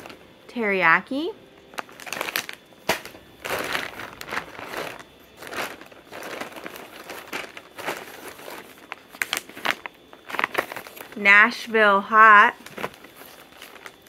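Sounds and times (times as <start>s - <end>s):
plastic packaging crinkling: 0.0s - 0.4s, 1.6s - 14.0s.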